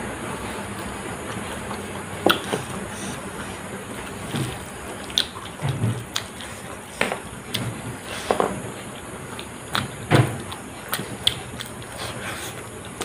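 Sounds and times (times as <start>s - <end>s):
wet eating smacks and chewing: 0.8s - 8.4s, 9.3s - 13.0s.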